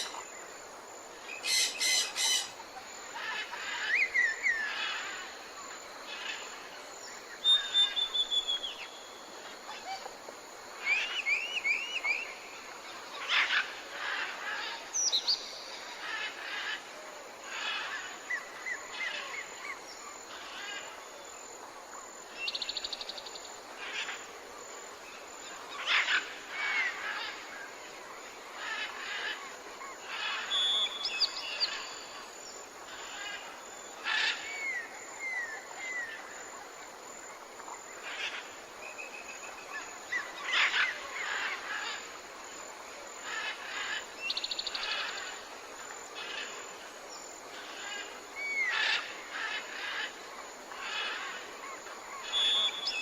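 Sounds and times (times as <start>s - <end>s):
faint steady hiss: 0.0s - 53.0s
songbirds calling and singing: 0.0s - 53.0s.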